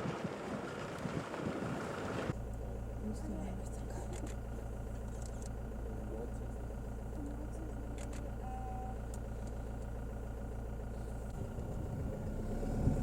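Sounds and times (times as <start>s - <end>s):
vehicle engine idling: 0.1s - 13.0s.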